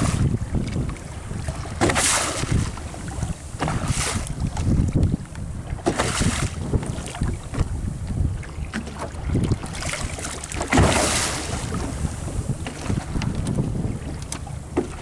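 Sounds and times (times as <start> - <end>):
water washing against boat hull: 0.0 - 15.0
waves hitting boat side: 0.0 - 15.0
wind rumbling on microphone: 0.0 - 15.0.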